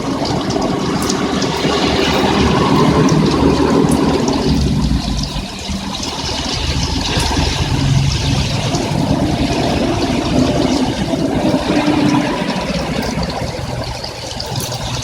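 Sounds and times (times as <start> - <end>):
heavy rain falling: 0.0 - 15.0
vehicle engine running: 0.0 - 15.0.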